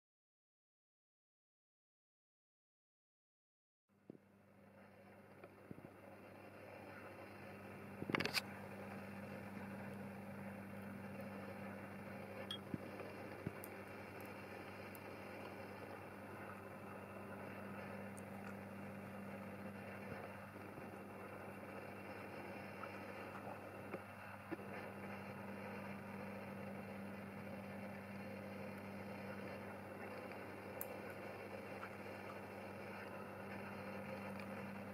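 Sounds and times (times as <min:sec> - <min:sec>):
steady low hum: 0:04.0 - 0:34.9.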